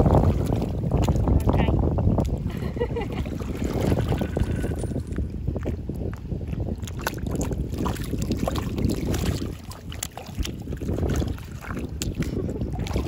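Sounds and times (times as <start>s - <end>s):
footsteps splashing in shallow water: 0.0s - 13.0s
wind rumbling on microphone: 0.0s - 13.0s.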